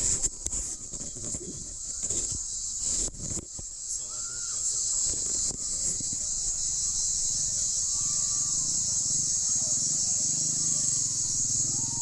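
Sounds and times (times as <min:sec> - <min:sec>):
high-pitched insect buzzing: 0:00.0 - 0:12.0.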